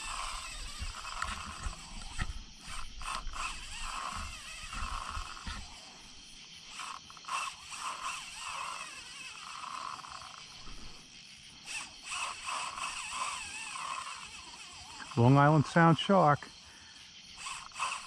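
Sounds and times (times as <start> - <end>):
insect buzzing: 0.0 - 18.0
night insects chirring: 0.0 - 18.0.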